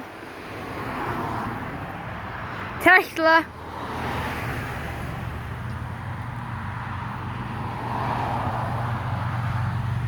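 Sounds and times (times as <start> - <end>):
car passing: 0.0 - 10.0
vehicles on the road: 0.0 - 10.0.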